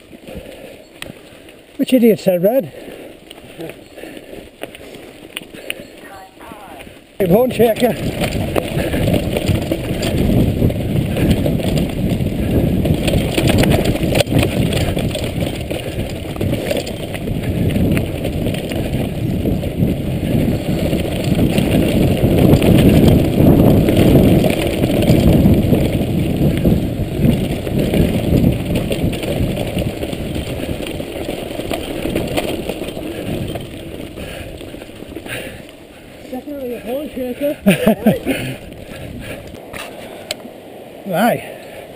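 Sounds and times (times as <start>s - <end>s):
bike rattling over stones: 0.0s - 41.9s
wind rumble on microphone: 4.0s - 41.9s.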